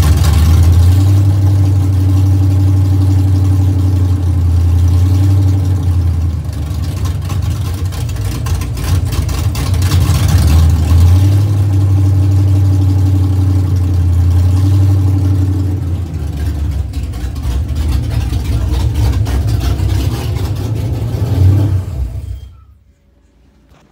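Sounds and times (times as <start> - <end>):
vee eight engine idling: 0.0 - 23.0.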